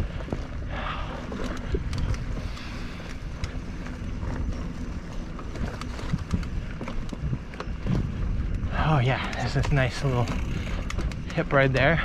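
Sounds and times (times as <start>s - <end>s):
bike clicking and rattling: 0.0s - 12.0s
bike tyres rolling on dirt: 0.0s - 12.0s.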